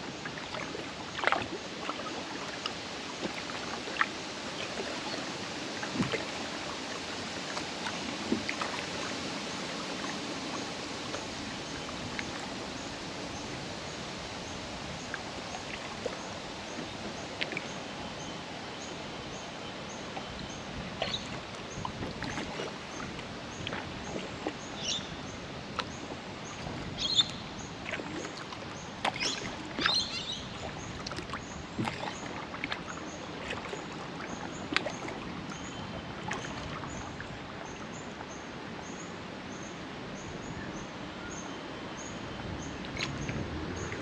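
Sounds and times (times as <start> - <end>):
kayak paddle strokes on water: 0.0 - 18.7, 19.3 - 38.4.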